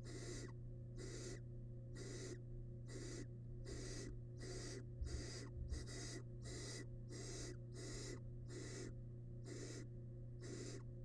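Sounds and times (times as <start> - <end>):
owl nestlings hissing calls: 0.0 - 1.4, 2.0 - 10.9.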